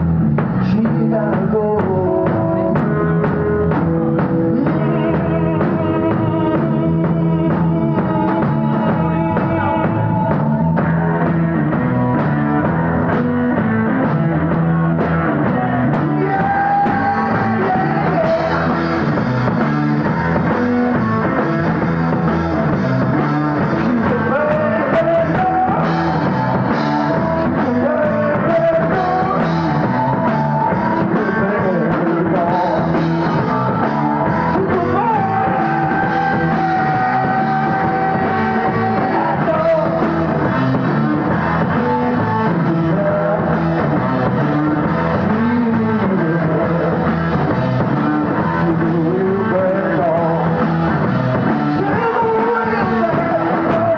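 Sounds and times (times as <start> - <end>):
rock band playing live: 0.0 - 53.9.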